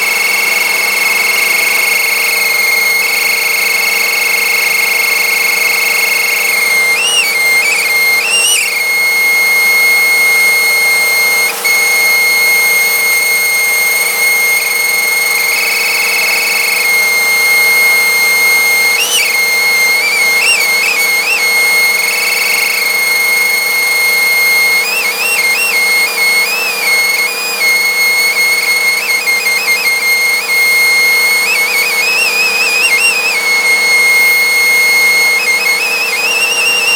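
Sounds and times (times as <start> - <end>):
vacuum cleaner motor hum: 0.0 - 36.9
high whistle from paper in suction: 1.9 - 36.9.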